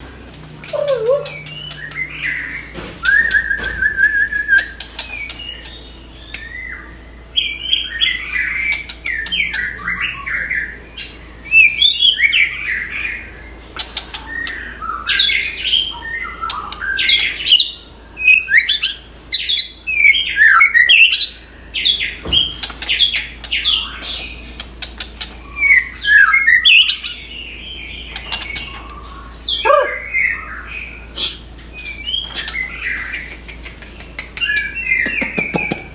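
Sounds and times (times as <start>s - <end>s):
songbird singing: 0.0s - 35.9s.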